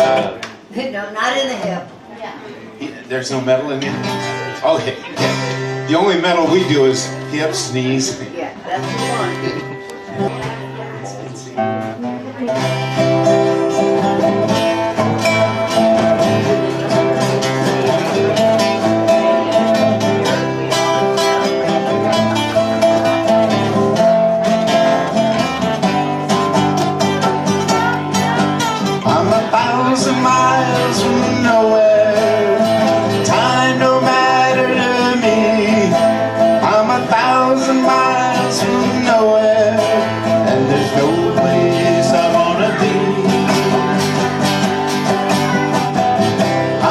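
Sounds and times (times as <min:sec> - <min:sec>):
acoustic guitar strumming: 0:00.0 - 0:00.5, 0:03.1 - 0:46.9
plucked string instrument: 0:03.7 - 0:07.7, 0:08.7 - 0:46.9.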